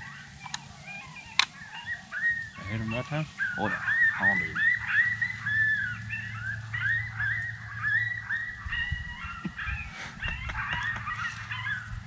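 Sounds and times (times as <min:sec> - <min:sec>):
wild animal calls: 0:00.0 - 0:12.0.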